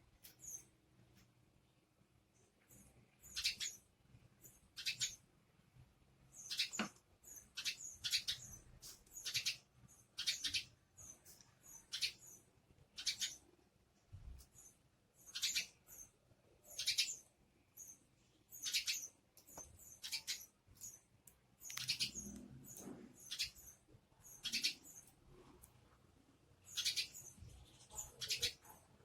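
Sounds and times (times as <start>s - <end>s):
sparrows chirping: 0.2s - 0.8s, 2.4s - 5.3s, 6.2s - 13.6s, 14.4s - 25.6s, 26.3s - 29.0s.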